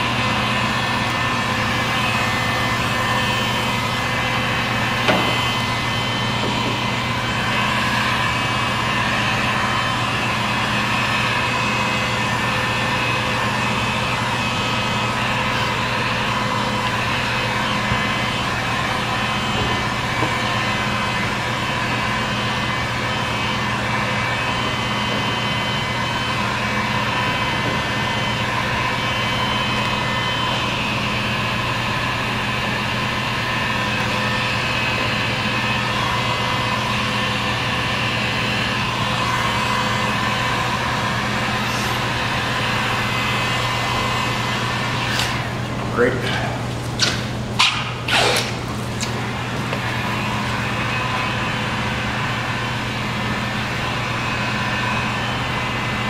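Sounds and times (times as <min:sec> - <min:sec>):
heat gun fan humming: 0:00.0 - 0:56.0.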